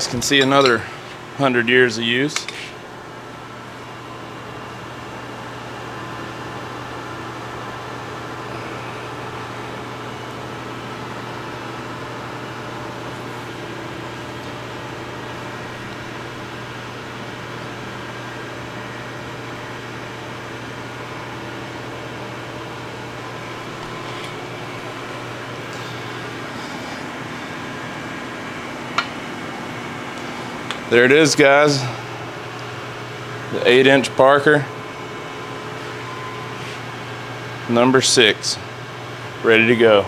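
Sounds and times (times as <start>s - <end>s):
machine hum with low drone: 0.0s - 40.0s.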